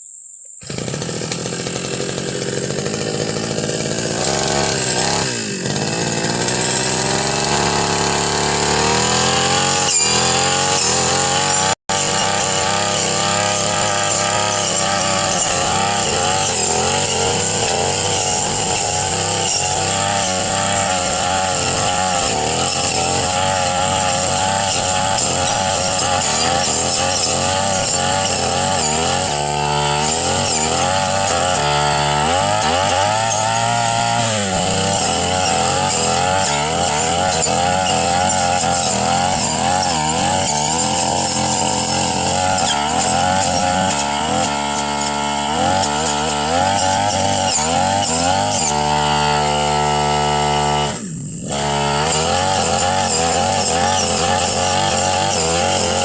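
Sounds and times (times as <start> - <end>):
brush cutter engine revving: 0.6 - 56.0.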